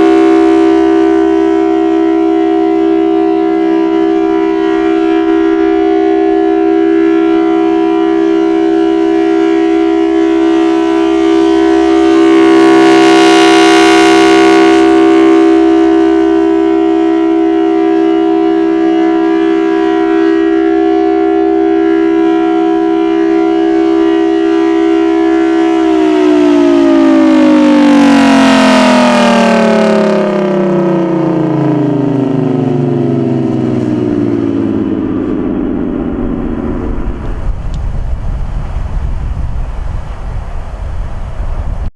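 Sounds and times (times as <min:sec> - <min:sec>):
warning siren: 0:00.0 - 0:41.9.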